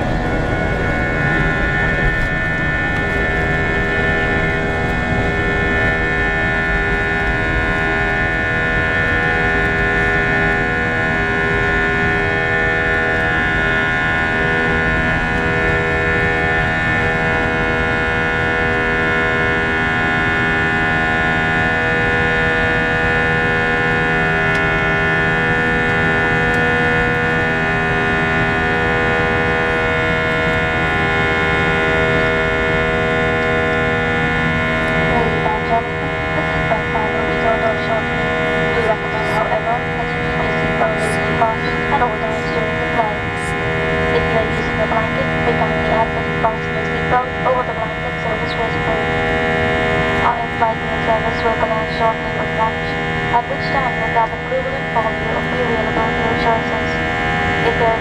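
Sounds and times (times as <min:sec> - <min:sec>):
engine whining tones: 0:00.0 - 0:58.0
jet engines in cabin: 0:00.0 - 0:58.0.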